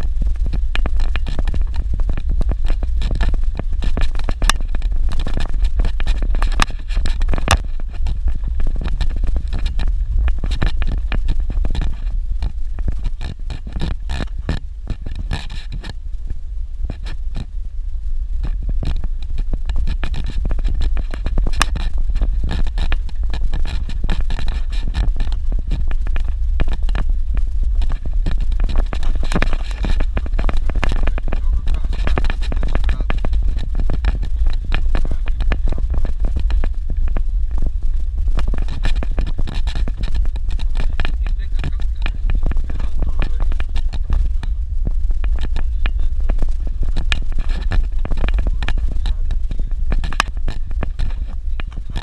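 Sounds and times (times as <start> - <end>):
rattling and scraping clicks: 0.0 - 17.5, 18.4 - 52.0
vehicle rumbling on dirt road: 0.0 - 52.0.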